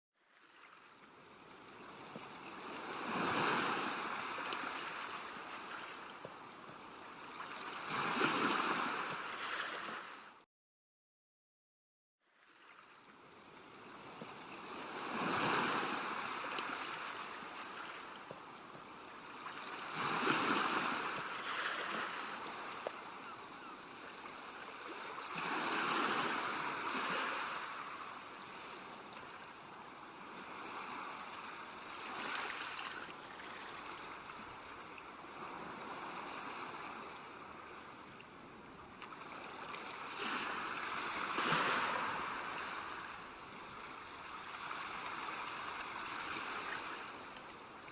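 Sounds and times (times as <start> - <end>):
ocean waves breaking on shore: 0.3 - 10.4, 12.4 - 47.9.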